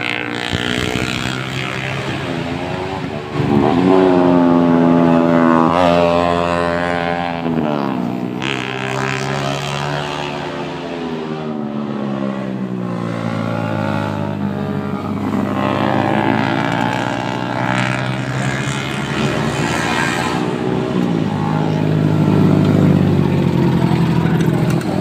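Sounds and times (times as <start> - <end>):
motorcycle engines passing: 0.0 - 25.0.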